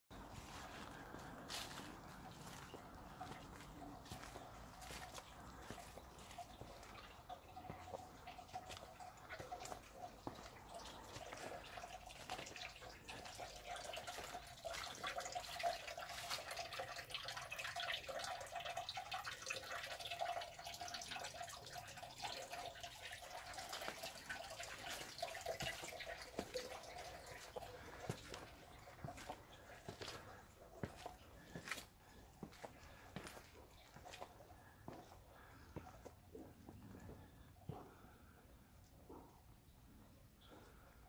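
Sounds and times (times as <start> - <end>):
water dripping into stone basin: 0.1 - 41.0.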